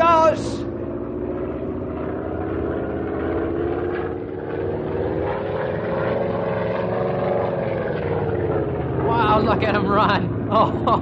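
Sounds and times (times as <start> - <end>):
propeller airplane engine droning: 0.0 - 11.0.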